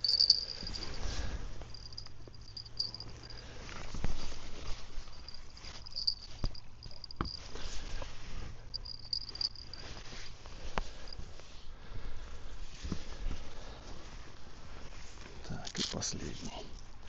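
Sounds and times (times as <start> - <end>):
low steady rumble: 0.0 - 15.5.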